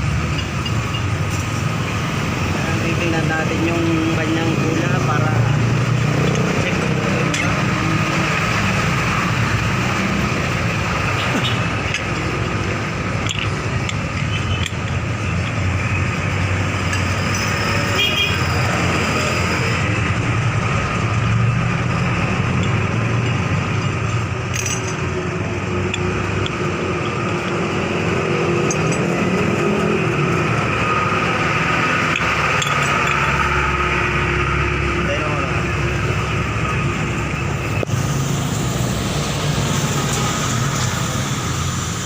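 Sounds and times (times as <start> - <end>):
motor vehicle noise: 0.0 - 42.0.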